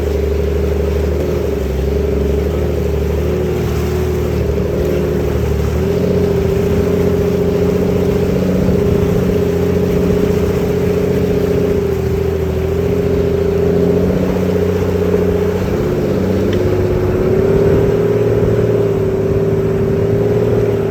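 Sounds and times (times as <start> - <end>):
diesel engine running under load: 0.0 - 20.9.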